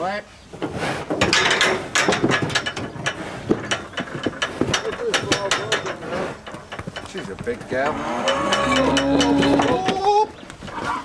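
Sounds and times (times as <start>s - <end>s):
metal crush rattling and clanking: 1.2s - 10.0s.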